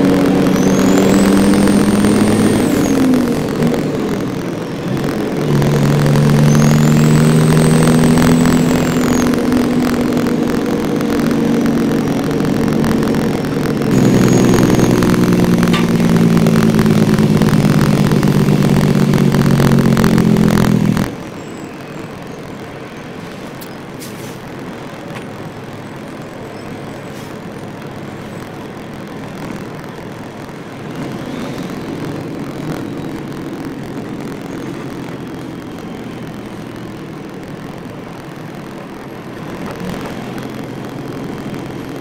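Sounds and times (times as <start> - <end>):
truck engine under load: 0.0 - 42.0.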